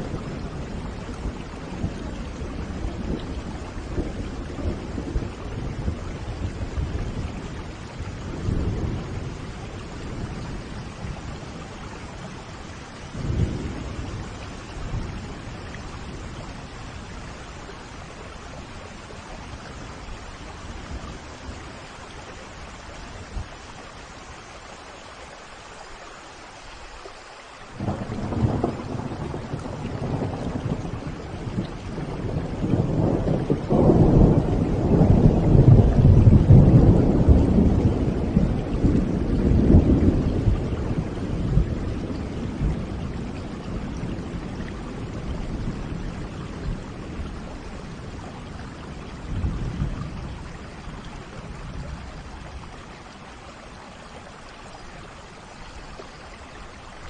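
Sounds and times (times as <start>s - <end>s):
thunder rumbling: 0.0s - 23.7s, 27.8s - 53.2s
steady rain: 0.0s - 57.0s.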